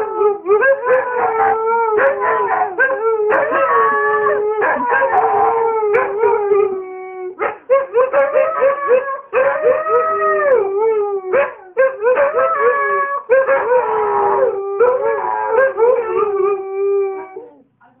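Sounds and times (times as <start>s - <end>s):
dogs howling: 0.0s - 17.6s.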